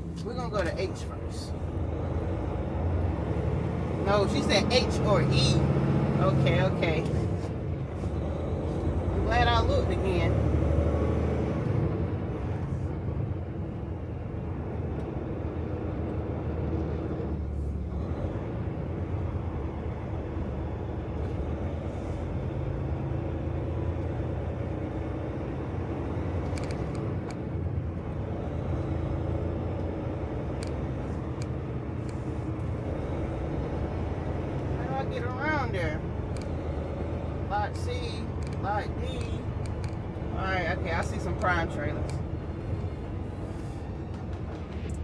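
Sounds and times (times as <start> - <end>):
truck diesel engine rumble: 0.0 - 45.0.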